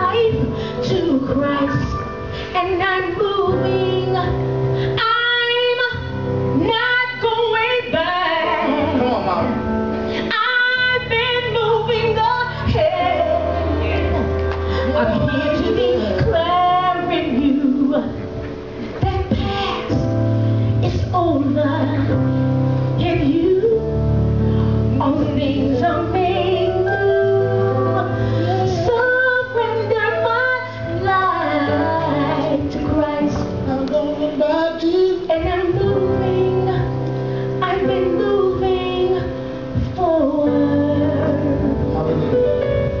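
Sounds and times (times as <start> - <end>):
woman singing gospel: 0.0 - 9.6, 10.2 - 18.3, 19.0 - 20.2, 24.9 - 37.0, 37.6 - 42.0
live band with keyboard and bass: 0.0 - 43.0.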